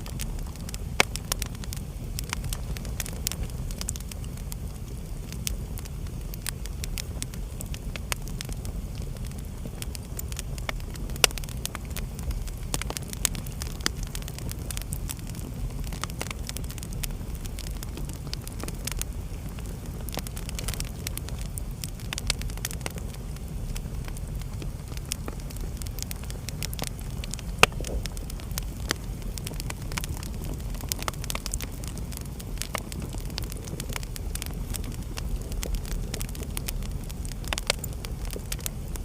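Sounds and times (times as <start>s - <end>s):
low rumble of flames: 0.0s - 39.0s
sharp pops of fire: 0.0s - 39.0s
wood fire crackling: 0.0s - 39.0s.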